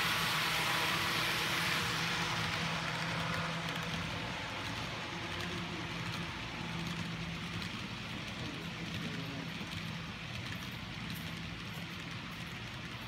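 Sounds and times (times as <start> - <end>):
model train wheels on rail: 0.0 - 13.0.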